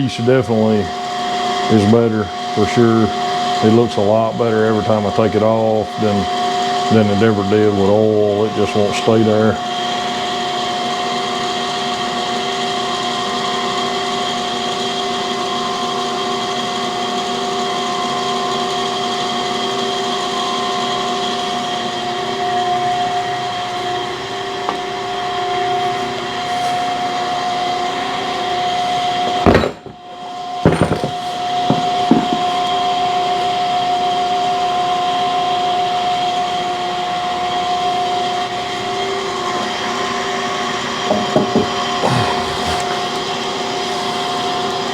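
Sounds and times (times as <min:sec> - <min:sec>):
grinding machine hum and whine: 0:00.0 - 0:44.9.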